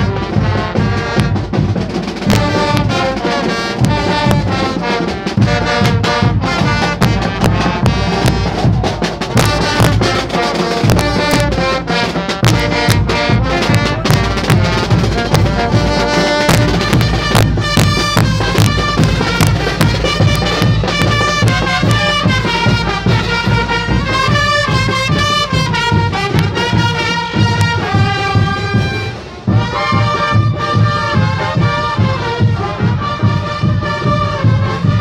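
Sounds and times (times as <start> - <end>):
brass band playing loudly: 0.0 - 35.0
drum beats: 0.0 - 35.0.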